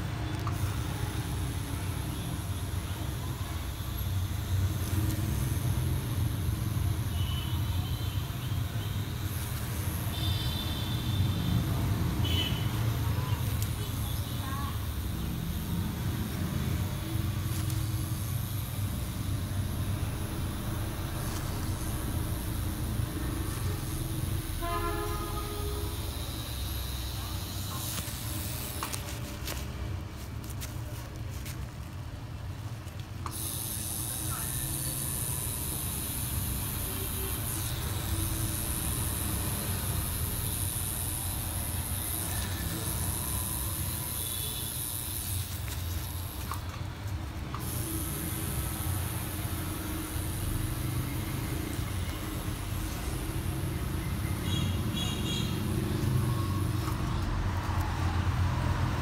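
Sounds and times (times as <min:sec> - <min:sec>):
tattoo machine humming: 0:00.3 - 0:29.6, 0:32.9 - 0:59.0.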